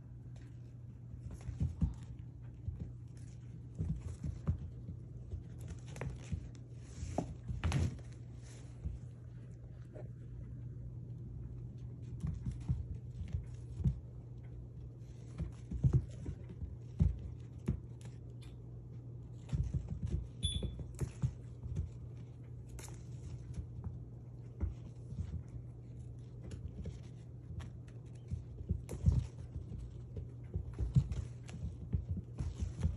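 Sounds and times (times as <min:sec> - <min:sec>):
steady low hum: 0:00.0 - 0:32.9
kittens scrambling on carpet: 0:00.3 - 0:10.4, 0:11.5 - 0:32.9.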